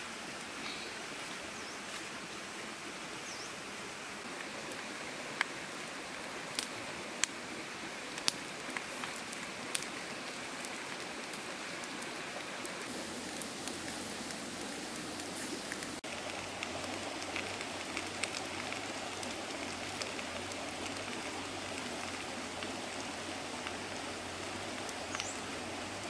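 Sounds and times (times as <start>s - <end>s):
fish sizzling over fire: 4.2s - 26.0s
wood fire crackling and popping: 4.2s - 26.0s.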